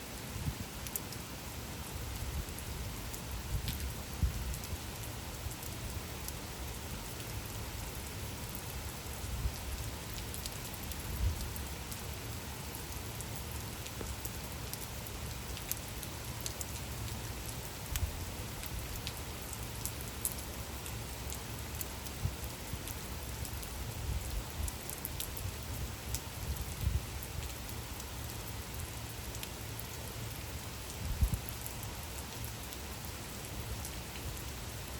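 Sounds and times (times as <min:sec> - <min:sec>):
gentle rain falling: 0:00.0 - 0:34.9
raindrops ticking: 0:00.4 - 0:34.9.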